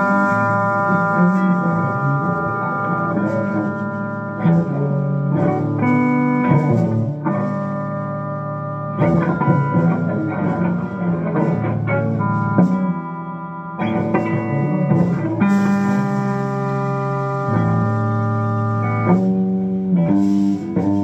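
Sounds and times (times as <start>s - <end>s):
guitar chords: 0.0s - 21.0s.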